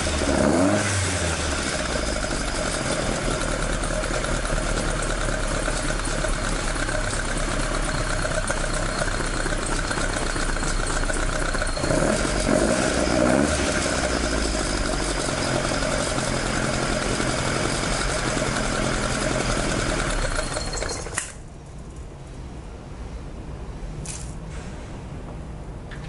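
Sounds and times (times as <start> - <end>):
car engine idling and revving: 0.0 - 21.2.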